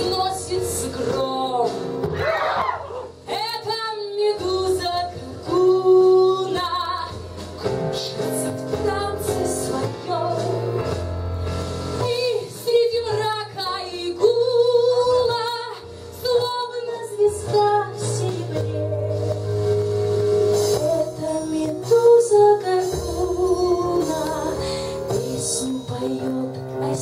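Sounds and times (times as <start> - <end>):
woman singing: 0.0 - 2.0, 3.3 - 10.8, 12.0 - 19.4, 20.7 - 27.0
backing music with bass line: 0.0 - 27.0.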